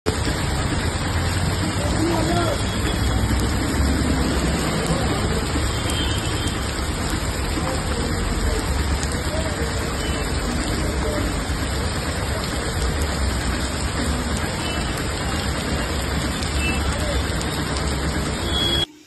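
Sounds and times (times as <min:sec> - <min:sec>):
heavy rain pouring on street: 0:00.1 - 0:19.0.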